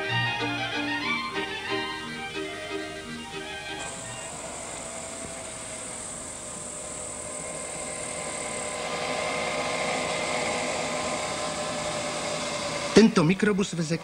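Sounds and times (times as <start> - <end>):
minibus engine whine: 0.0 - 14.0.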